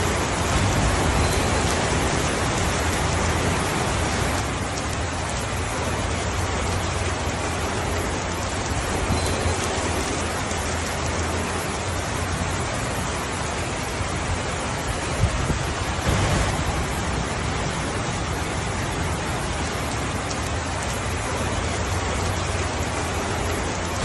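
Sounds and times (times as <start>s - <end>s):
steady rainfall hiss: 0.0s - 24.0s.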